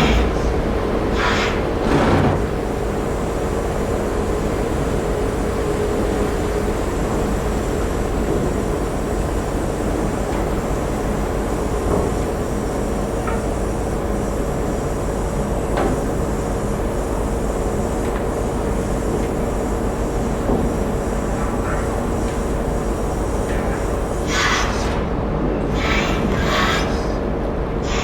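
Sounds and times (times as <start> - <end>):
ship engines rumbling: 0.0 - 28.0.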